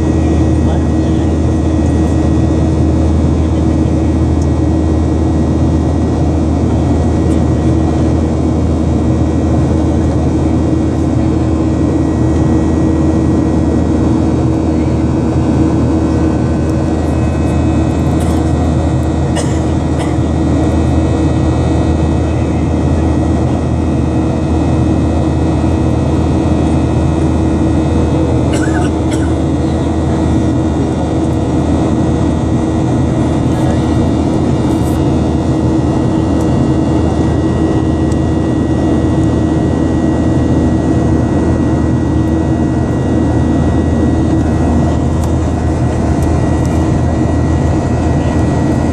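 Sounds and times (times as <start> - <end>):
jet engines roaring: 0.0 - 48.9.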